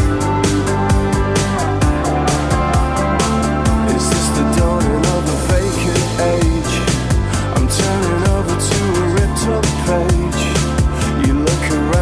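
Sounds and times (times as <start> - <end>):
upbeat dance music: 0.0 - 12.0.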